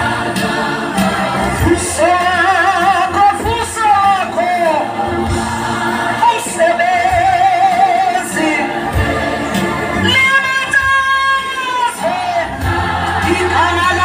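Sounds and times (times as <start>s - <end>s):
choir singing gospel hymn: 0.0s - 14.0s.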